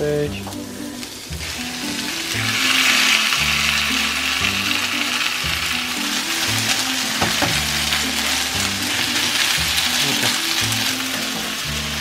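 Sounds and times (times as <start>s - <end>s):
beef sizzling in frying pan: 0.0s - 12.0s.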